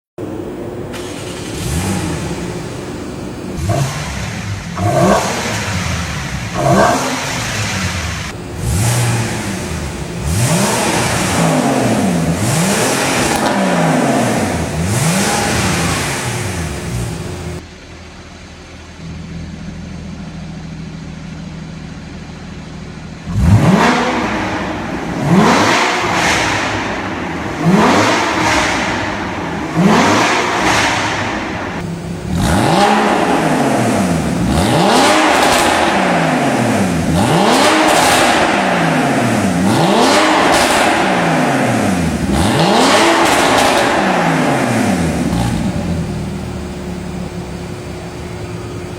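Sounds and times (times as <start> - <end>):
sports car engine revving: 0.2 - 17.7, 19.0 - 48.9.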